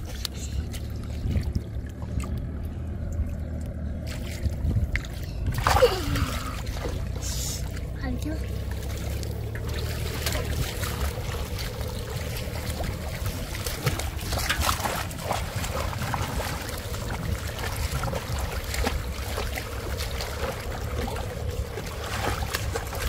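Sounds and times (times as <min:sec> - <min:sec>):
low rumble: 0:00.0 - 0:23.0
water splashing and sloshing: 0:00.0 - 0:23.0.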